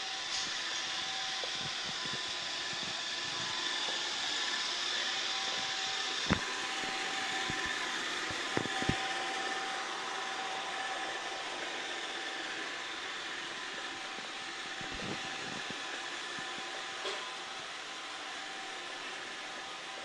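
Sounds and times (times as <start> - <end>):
robot vacuum running: 0.0 - 20.0.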